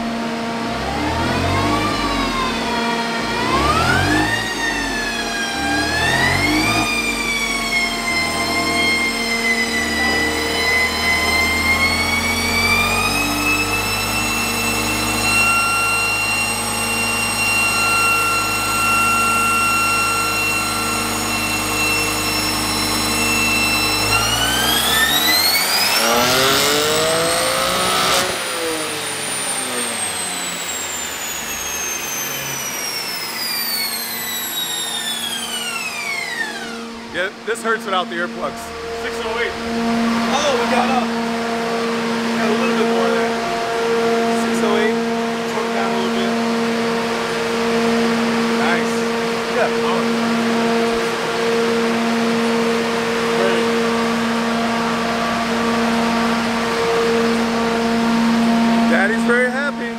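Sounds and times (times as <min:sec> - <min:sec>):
car engine revving on dyno: 0:00.0 - 0:59.9.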